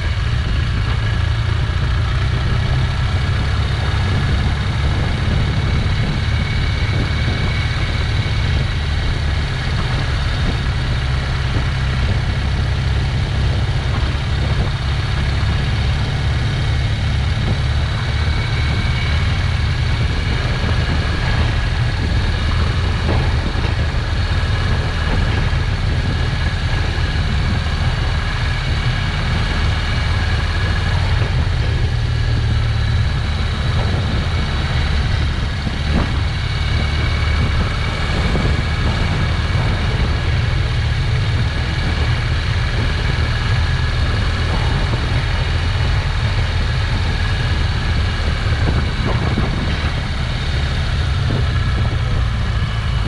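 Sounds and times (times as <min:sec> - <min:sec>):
motorcycle engine running: 0:00.0 - 0:53.0
wind rumbling on microphone: 0:00.0 - 0:53.0.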